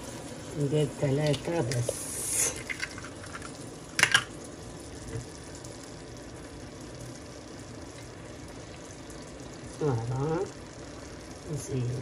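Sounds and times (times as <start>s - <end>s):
stew simmering in a pan: 0.0s - 12.0s.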